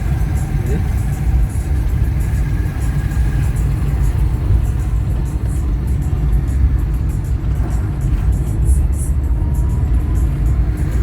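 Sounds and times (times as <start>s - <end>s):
music playing: 0.0s - 11.0s
vehicle engine and tyres rumbling: 0.0s - 11.0s.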